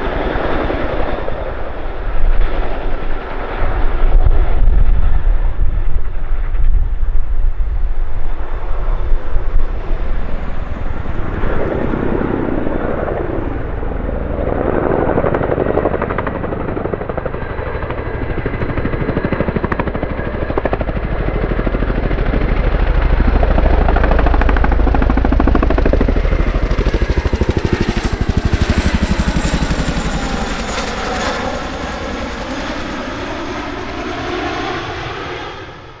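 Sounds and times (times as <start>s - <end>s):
helicopter rotors beating: 0.0s - 36.0s.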